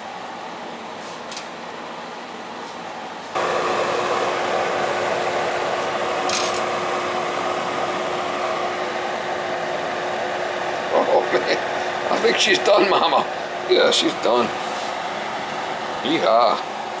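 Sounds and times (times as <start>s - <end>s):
electric fan whooshing and humming: 0.0s - 17.0s.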